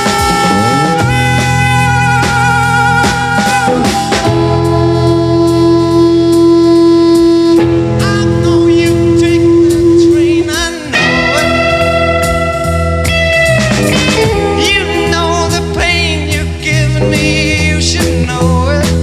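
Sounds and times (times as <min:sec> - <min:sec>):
held lead guitar note: 0:00.0 - 0:17.6
blues rock band: 0:00.0 - 0:19.0.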